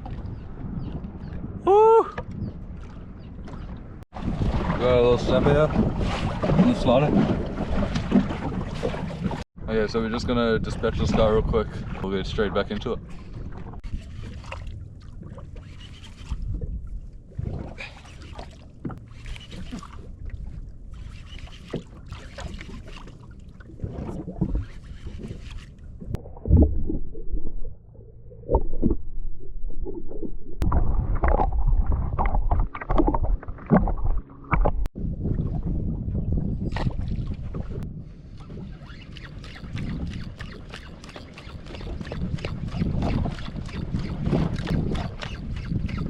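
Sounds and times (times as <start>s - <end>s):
water noise: 0.0s - 46.0s
wind: 0.0s - 46.0s.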